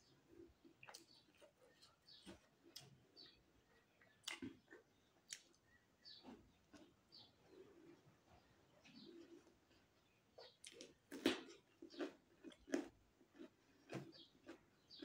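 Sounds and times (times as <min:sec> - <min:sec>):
faint chewing of crisp food: 0:00.0 - 0:15.0.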